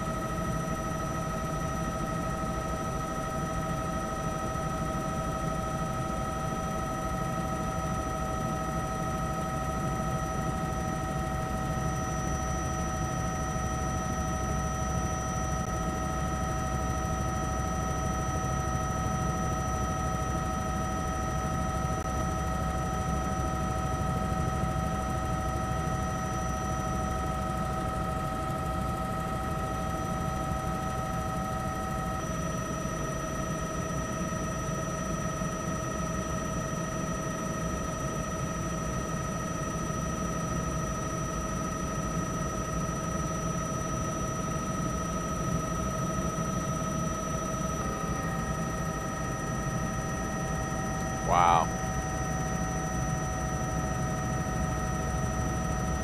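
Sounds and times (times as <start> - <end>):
helicopter rotor rumble: 0.0 - 56.0.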